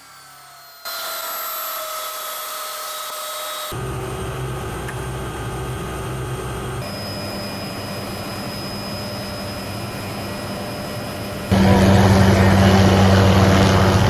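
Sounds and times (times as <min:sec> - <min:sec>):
helicopter turbine and rotor: 0:00.0 - 0:14.0.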